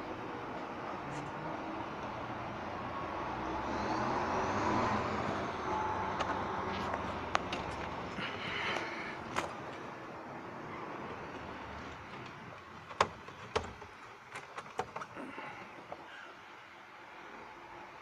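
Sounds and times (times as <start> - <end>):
motor vehicle noise: 0.0 - 18.0.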